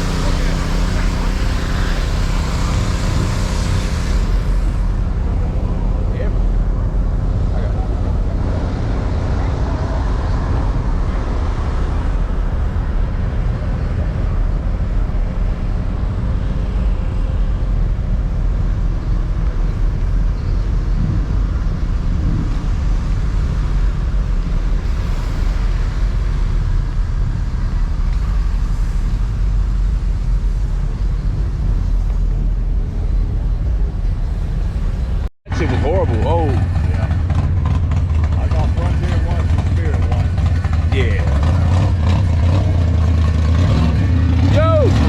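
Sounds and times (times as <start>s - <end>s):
motor vehicle rumble: 0.0s - 45.0s.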